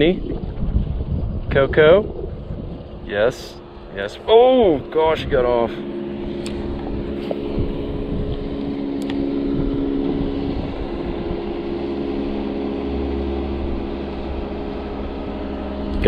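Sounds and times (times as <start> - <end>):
motorboat engine humming: 0.0 - 16.0.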